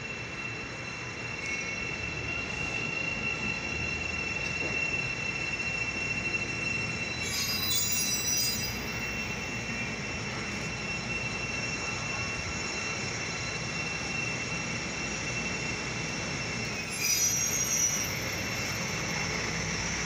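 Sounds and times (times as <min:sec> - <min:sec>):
high wheel squeal: 0:00.0 - 0:20.0
train wheels rumbling on rails: 0:00.0 - 0:20.0.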